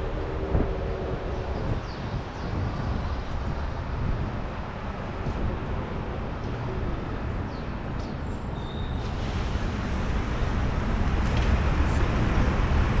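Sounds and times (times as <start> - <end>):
light traffic: 0.0 - 13.0
road and wind rumble: 0.0 - 13.0.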